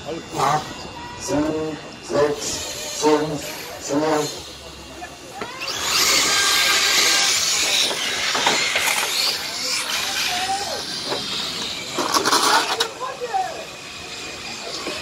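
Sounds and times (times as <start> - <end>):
radio-controlled trucks speeding: 0.0 - 15.0.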